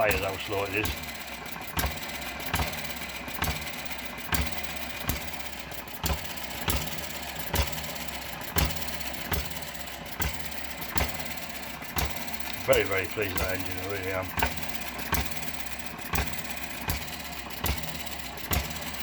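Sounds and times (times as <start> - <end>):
small petrol engine knocking slowly: 0.0 - 19.0.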